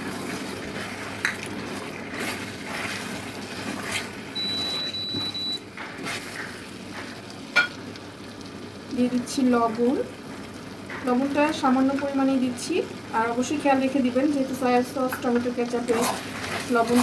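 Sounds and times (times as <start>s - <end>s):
sauce sizzling in a pan: 0.0s - 17.0s.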